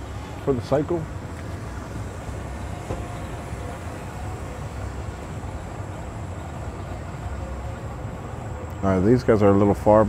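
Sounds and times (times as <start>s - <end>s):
outdoor background noise: 0.0s - 10.0s
vehicle engine idling: 0.0s - 10.0s.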